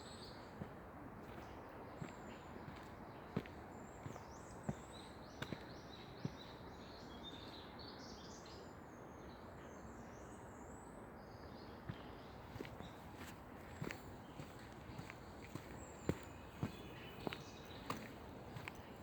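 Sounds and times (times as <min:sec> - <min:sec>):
small songbird singing: 0:01.4 - 0:19.0.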